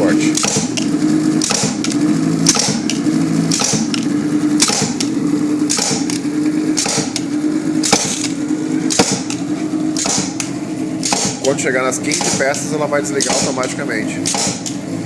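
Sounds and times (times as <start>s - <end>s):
steady machine hum: 0.0s - 15.0s
machine clack with air hiss: 0.3s - 5.1s, 5.7s - 6.2s, 6.8s - 8.3s, 8.9s - 9.4s, 10.0s - 14.8s.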